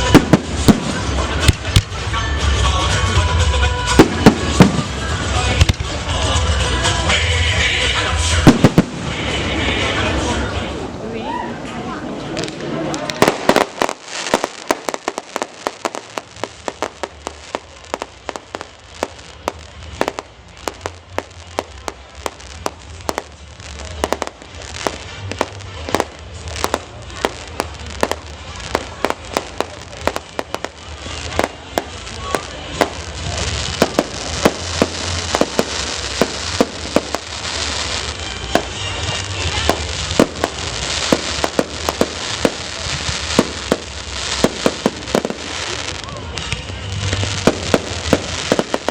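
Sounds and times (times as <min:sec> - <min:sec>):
fireworks bangs and crackling: 0:00.0 - 0:11.0, 0:12.0 - 0:48.9
music playing: 0:00.0 - 0:11.2, 0:13.1 - 0:48.9.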